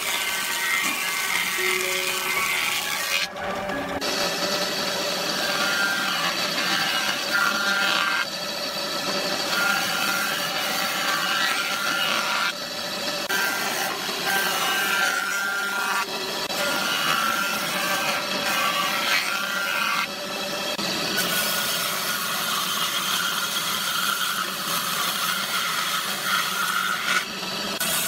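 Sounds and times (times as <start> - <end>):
woodworking machine whirring: 0.0 - 28.0.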